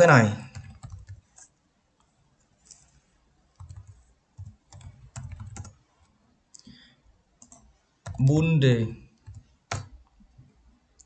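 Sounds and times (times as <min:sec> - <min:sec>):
keyboard typing: 0:00.4 - 0:06.7, 0:07.4 - 0:08.5, 0:09.2 - 0:11.0.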